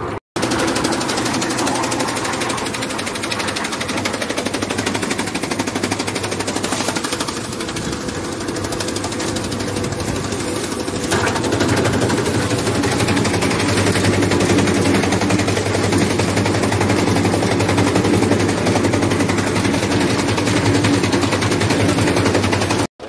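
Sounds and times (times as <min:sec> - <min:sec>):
motor hum: 0:00.0 - 0:22.9
cutter blades chattering: 0:00.4 - 0:22.9.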